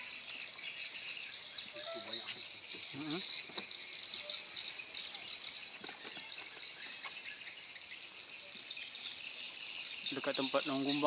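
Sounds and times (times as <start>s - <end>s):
insects chorus shrill buzz: 0.0s - 11.0s.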